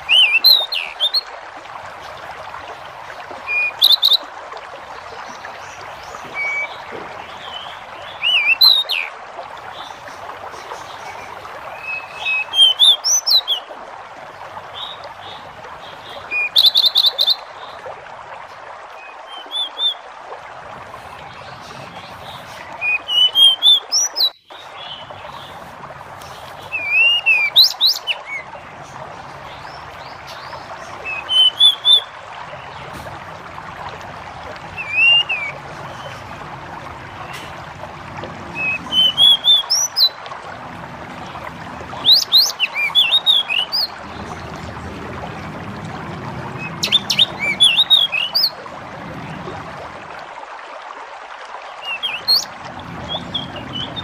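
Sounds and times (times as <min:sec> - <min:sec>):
bird singing warbled phrases: 0:00.0 - 0:01.4, 0:03.2 - 0:04.3, 0:05.1 - 0:13.7, 0:14.4 - 0:17.9, 0:18.9 - 0:20.0, 0:20.9 - 0:25.6, 0:26.2 - 0:33.2, 0:34.0 - 0:37.5, 0:38.4 - 0:40.3, 0:41.1 - 0:49.4, 0:51.8 - 0:54.0.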